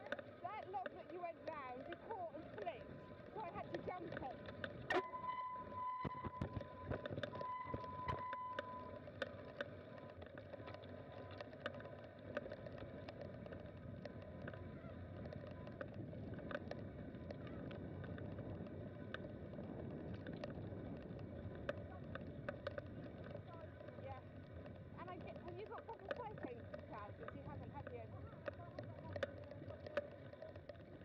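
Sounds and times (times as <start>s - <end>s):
bike clicks and rattles: 0.0s - 31.0s
bike tyres rolling on dirt: 0.0s - 31.0s.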